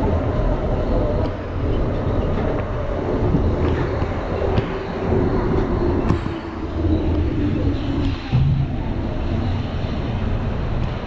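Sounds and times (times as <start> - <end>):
metro train rumble: 0.0 - 11.0
wavering hum: 0.0 - 11.0.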